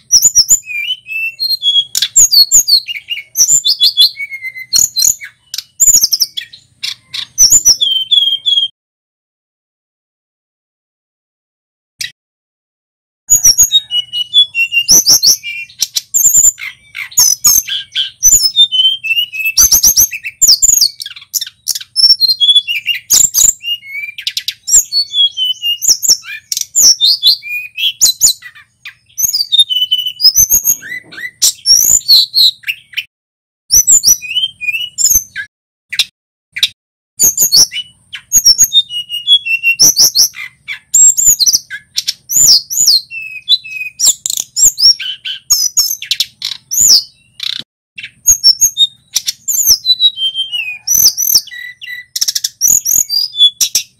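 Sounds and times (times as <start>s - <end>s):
bird singing whistled notes: 0.0s - 8.7s, 13.3s - 33.1s, 33.7s - 53.9s.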